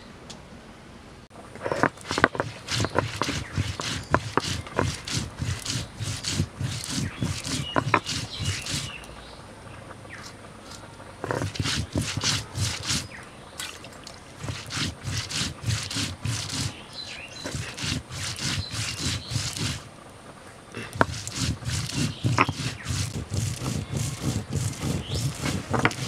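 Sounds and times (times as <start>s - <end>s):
stone scraping on stone: 1.6s - 9.1s, 10.2s - 13.1s, 14.4s - 19.9s, 20.7s - 26.0s.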